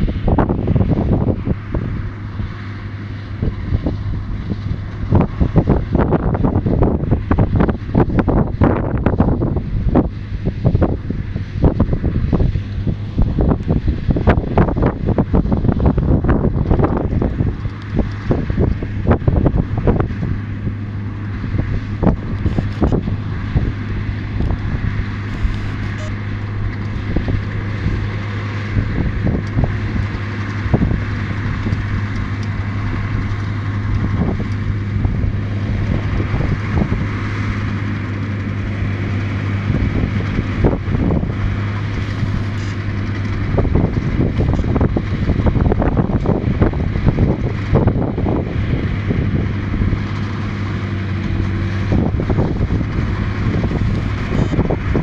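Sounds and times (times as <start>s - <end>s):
tractor engine running: 0.0s - 55.0s
wind buffeting microphone: 0.0s - 55.0s.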